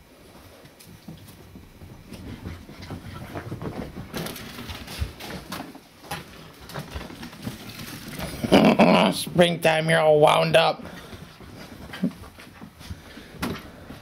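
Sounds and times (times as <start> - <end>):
puppy paws pattering: 0.3 - 14.0.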